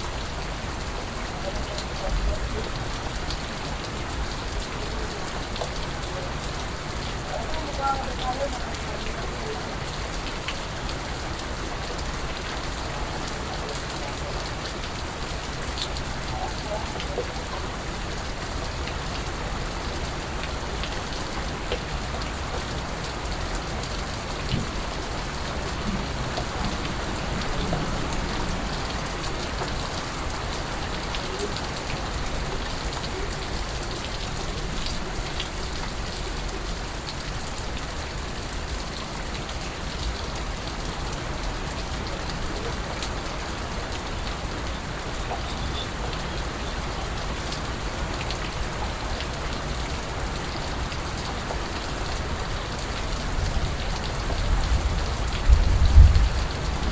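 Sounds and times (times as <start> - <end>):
raindrops ticking on a surface: 0.0 - 56.9
steady rain hiss: 0.0 - 56.9.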